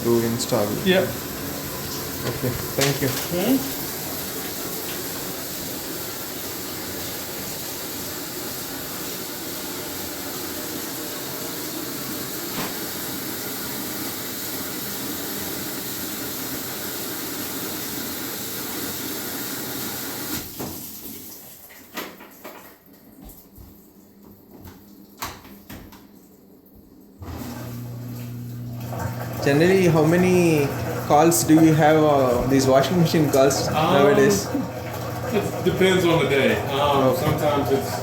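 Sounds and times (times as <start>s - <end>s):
water rushing into washing machine: 0.0s - 23.2s, 27.1s - 38.0s.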